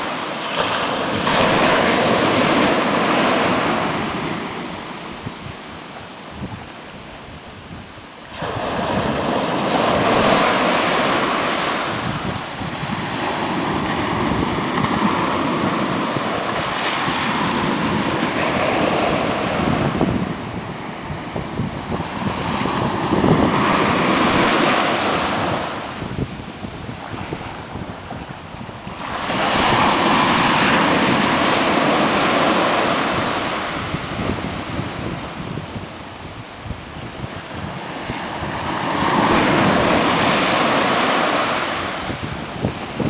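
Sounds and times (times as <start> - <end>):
waves breaking on a beach: 0.0 - 43.0.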